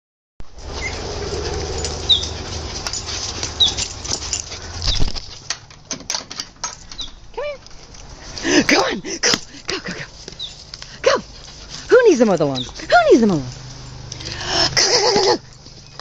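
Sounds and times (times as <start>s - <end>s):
dog paws pattering and thudding: 0.6s - 14.0s.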